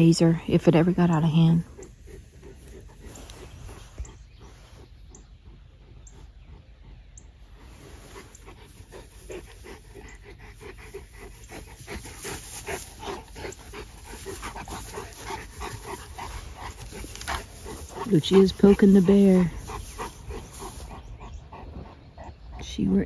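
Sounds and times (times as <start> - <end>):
dogs panting rapidly: 0.0 - 23.0.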